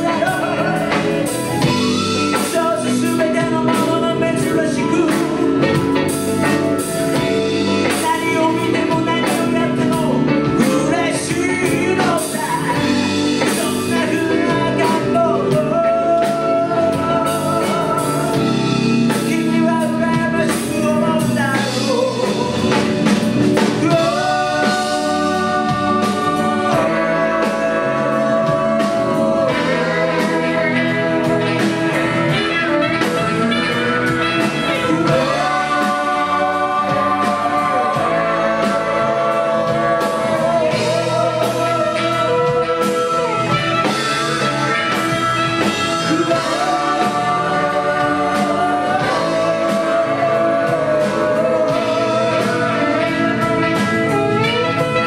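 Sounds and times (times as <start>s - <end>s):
flute and saxophones: 0.0s - 55.0s
man singing: 0.0s - 55.0s
rock band playing: 0.0s - 55.0s.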